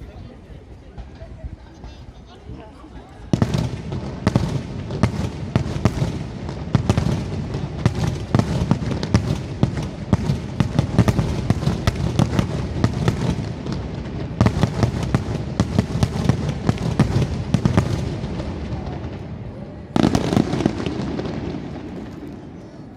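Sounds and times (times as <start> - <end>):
fireworks bursting: 3.3 - 22.9.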